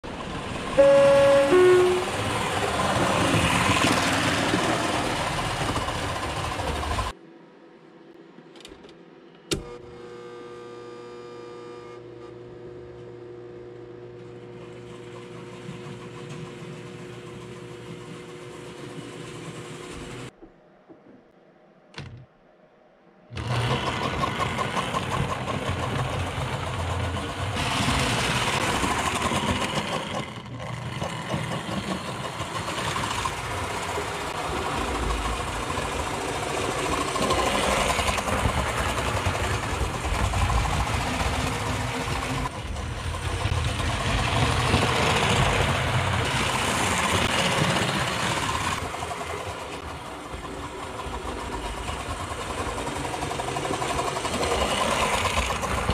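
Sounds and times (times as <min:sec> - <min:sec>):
model train rattling on track: 0:00.0 - 0:07.1, 0:14.7 - 0:20.3, 0:23.4 - 0:55.9
model train chuffing: 0:00.0 - 0:07.2, 0:14.3 - 0:20.3, 0:23.4 - 0:55.9.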